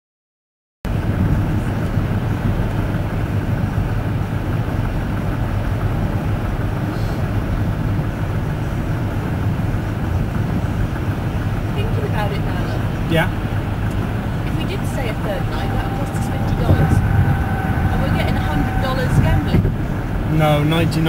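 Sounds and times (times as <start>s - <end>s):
vehicle rumble: 0.9s - 21.0s.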